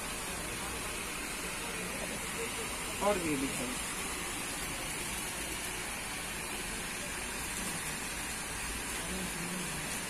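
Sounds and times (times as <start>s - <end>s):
faint voices: 0.0s - 10.0s
outdoor hiss and rumble: 0.0s - 10.0s.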